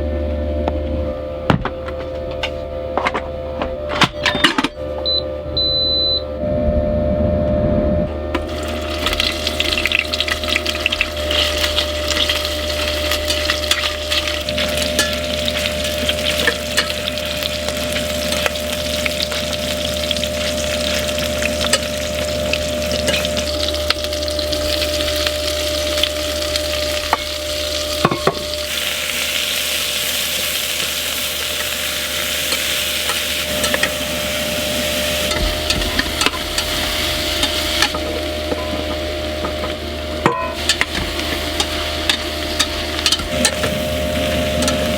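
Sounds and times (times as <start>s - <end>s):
heater buzzing: 0.0s - 44.9s
food sizzling in a pan: 8.4s - 44.9s.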